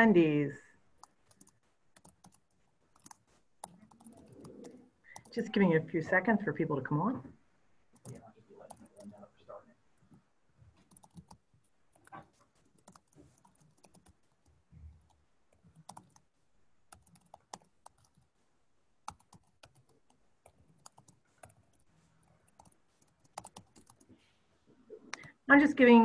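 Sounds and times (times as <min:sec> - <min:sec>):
faint keyboard typing: 0:00.9 - 0:06.4, 0:07.2 - 0:26.0.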